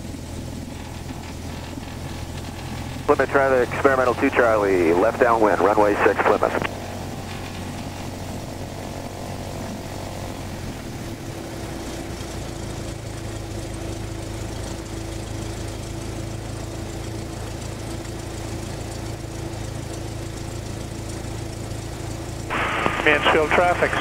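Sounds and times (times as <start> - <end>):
light aircraft engine droning: 0.0 - 24.0.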